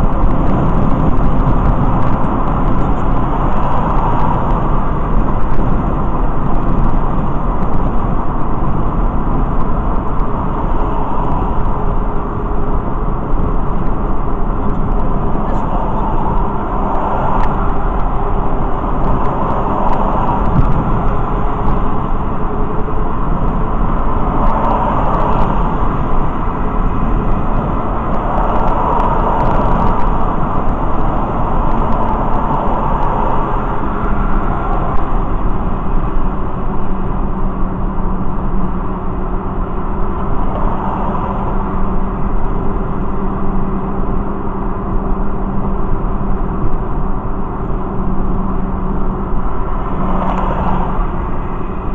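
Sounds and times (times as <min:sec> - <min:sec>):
engine hum: 0:00.0 - 0:51.9.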